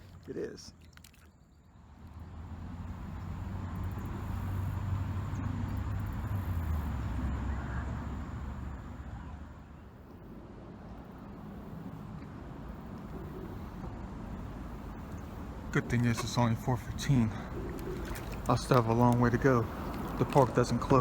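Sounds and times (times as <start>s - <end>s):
road traffic rumble: 1.6s - 21.0s.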